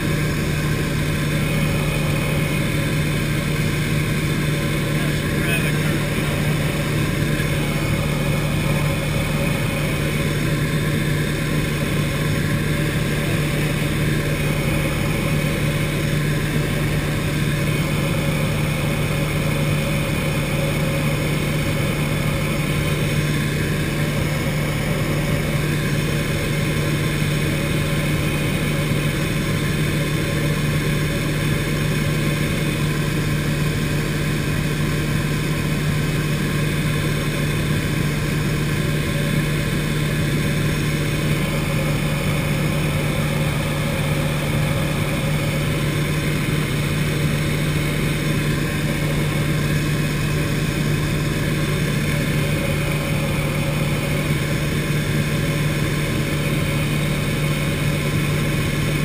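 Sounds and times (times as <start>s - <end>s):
aircraft piston engine drone: 0.0s - 59.0s.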